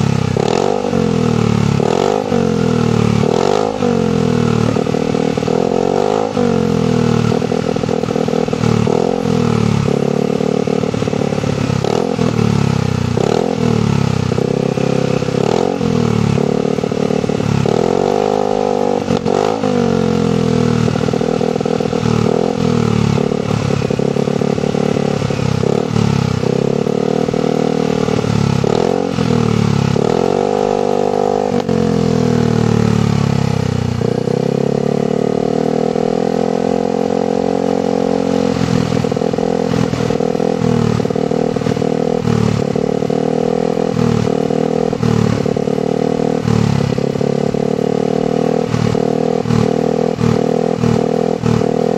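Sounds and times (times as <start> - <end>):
scooter engine revving: 0.0 - 51.9.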